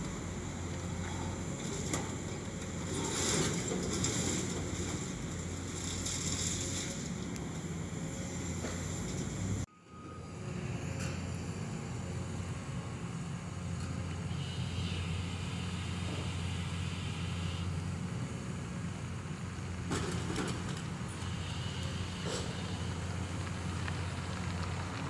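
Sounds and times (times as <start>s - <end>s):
diesel excavator engine droning: 0.0s - 25.0s.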